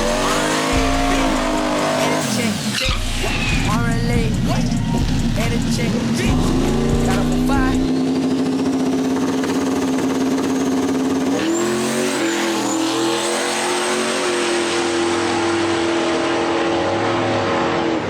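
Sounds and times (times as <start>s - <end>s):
car engine at high revs: 0.0s - 18.0s
high turbo whine: 0.0s - 18.0s.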